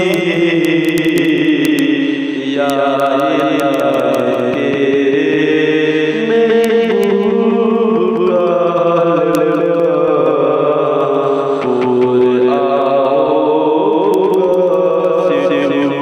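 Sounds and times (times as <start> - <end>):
person chanting long held notes: 0.0 - 16.0.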